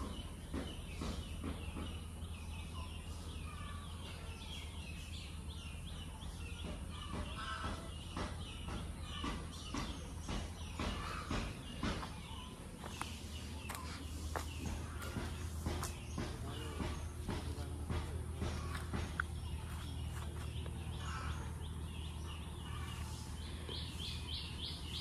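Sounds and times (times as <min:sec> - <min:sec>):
birds chirping and calling: 0:00.0 - 0:25.0
steady low hum: 0:00.0 - 0:25.0.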